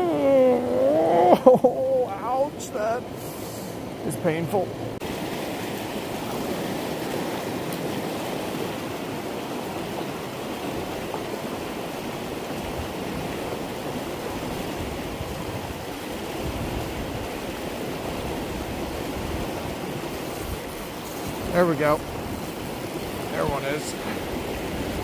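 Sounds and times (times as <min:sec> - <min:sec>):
water rushing over spillway: 0:00.0 - 0:25.0.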